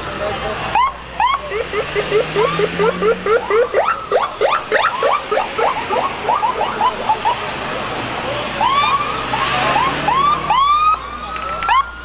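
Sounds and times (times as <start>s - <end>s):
siren yelping: 0.7s - 7.5s, 8.6s - 12.0s.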